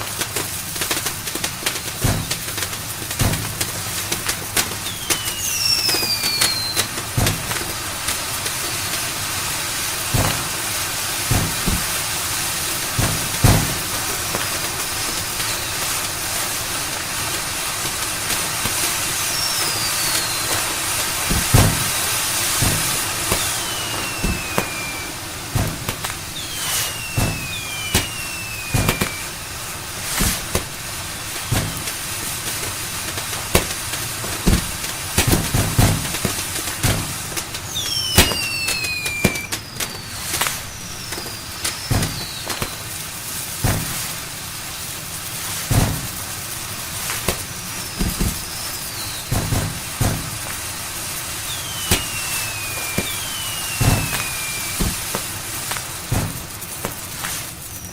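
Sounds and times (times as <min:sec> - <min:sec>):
firework bangs: 0:00.0 - 0:57.9
firework fountains hissing: 0:00.0 - 0:57.9
whistling rockets: 0:00.0 - 0:57.9.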